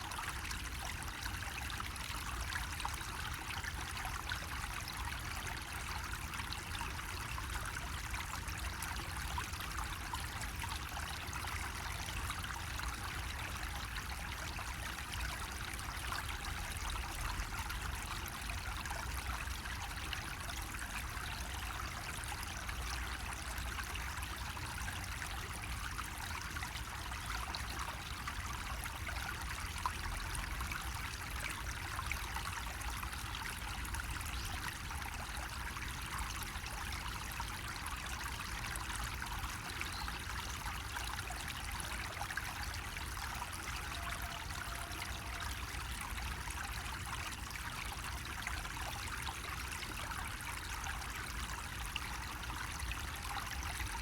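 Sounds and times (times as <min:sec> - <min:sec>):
water trickling from a spout: 0:00.0 - 0:54.0.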